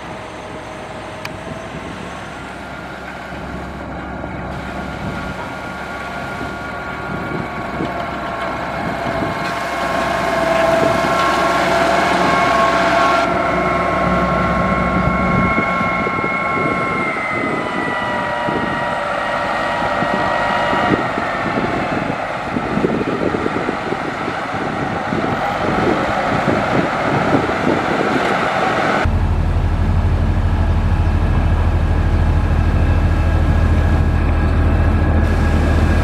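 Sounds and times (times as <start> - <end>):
heavy diesel machinery engine rumble: 0.0 - 36.0.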